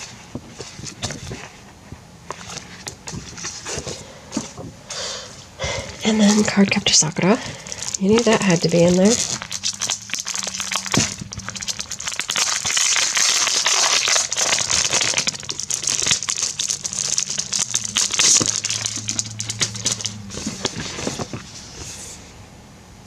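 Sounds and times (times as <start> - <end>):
plastic packaging crinkling: 0.0 - 22.2.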